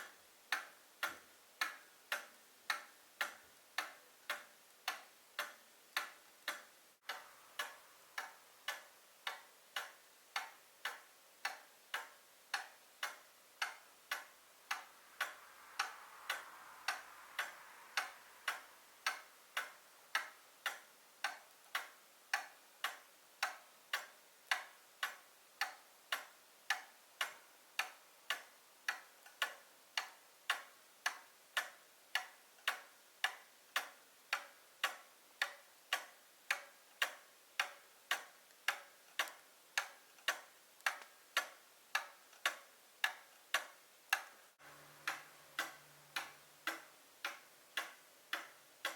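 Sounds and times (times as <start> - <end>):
clock pendulum ticking: 0.0 - 48.9.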